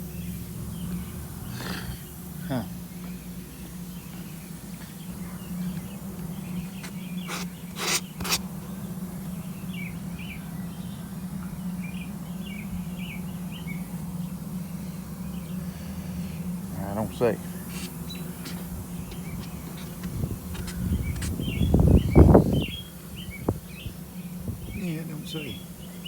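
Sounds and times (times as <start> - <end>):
sawmill machinery humming: 0.0 - 23.2.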